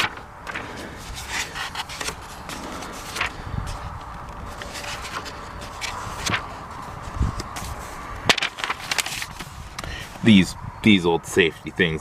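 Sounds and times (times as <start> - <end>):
paper pages rustling: 0.0 - 10.3.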